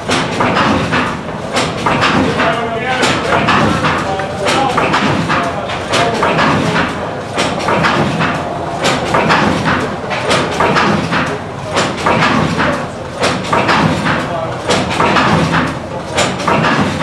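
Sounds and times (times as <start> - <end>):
oil engine clattering: 0.0 - 17.0.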